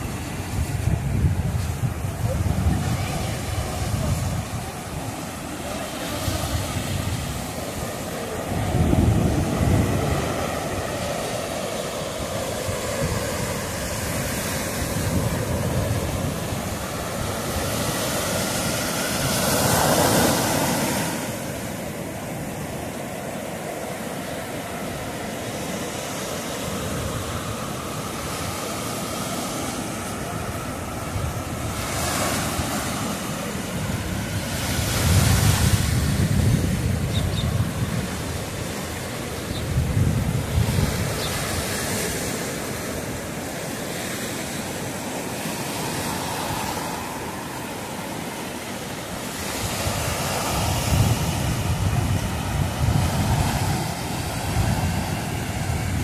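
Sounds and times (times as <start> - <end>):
waves breaking on sand and rocks: 0.0 - 56.0.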